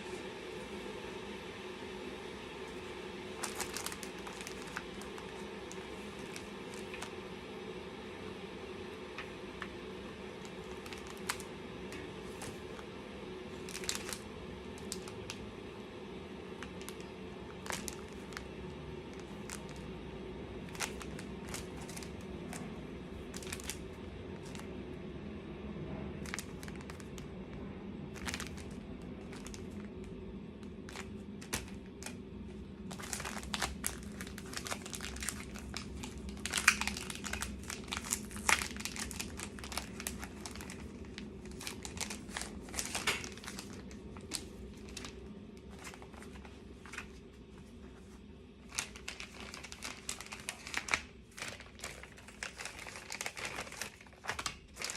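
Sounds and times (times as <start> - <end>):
steady low hum: 0.0 - 54.9
packaging crinkling: 2.5 - 7.2, 9.2 - 15.6, 16.4 - 20.0, 20.6 - 24.7, 26.2 - 27.3, 28.1 - 54.9.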